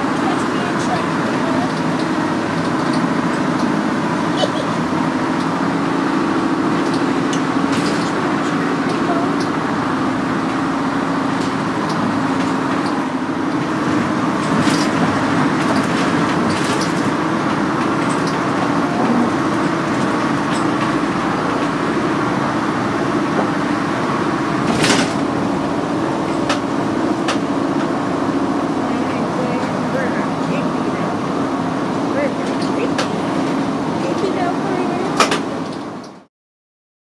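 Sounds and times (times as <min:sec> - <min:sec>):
road and engine noise in cabin: 0:00.0 - 0:36.3.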